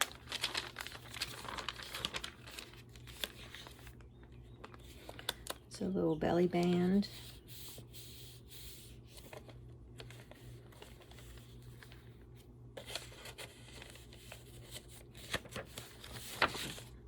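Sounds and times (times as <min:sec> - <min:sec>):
paper pages rustling: 0:00.0 - 0:05.6, 0:06.5 - 0:17.0
low electrical hum: 0:00.0 - 0:17.0.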